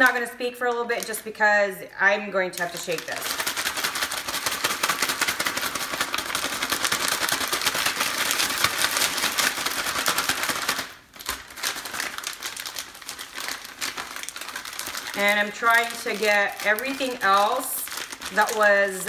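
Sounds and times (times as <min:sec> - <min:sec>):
plastic bag crinkling: 0:02.5 - 0:19.0.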